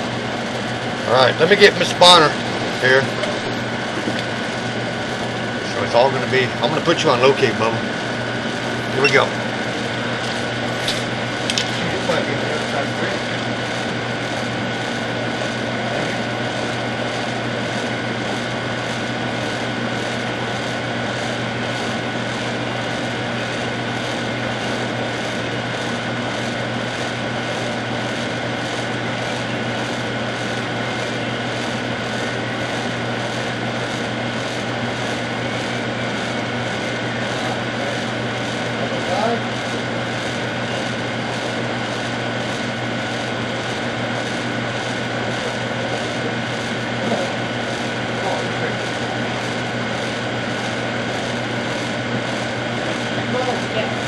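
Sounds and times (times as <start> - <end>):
mechanical hum with high whine: 0.0 - 54.0.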